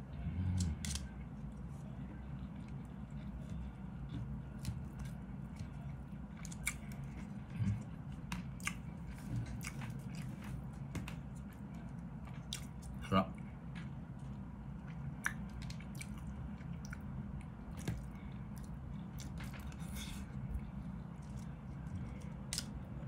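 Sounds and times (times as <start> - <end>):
low steady hum: 0.0 - 23.0
man chewing: 2.3 - 23.0.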